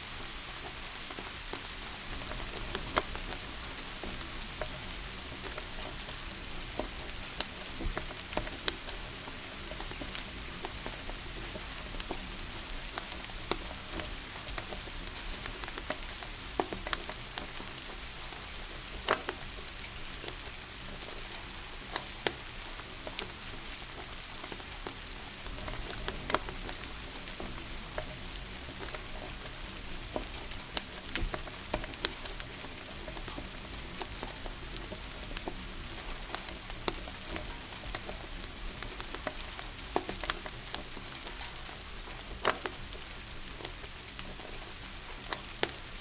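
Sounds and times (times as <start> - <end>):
rain hiss: 0.0 - 46.0
wood fire popping and crackling: 0.0 - 46.0.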